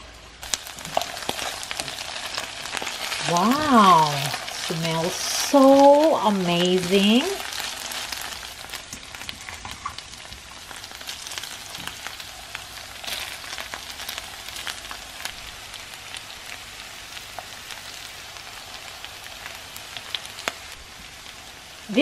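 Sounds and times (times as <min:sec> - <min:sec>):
meat and onions sizzling in a pan: 0:00.0 - 0:22.0.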